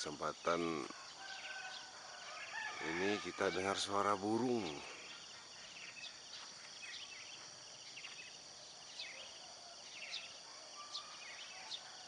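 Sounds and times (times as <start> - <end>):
insects droning: 0.0 - 12.0
small birds chirping: 0.0 - 12.0.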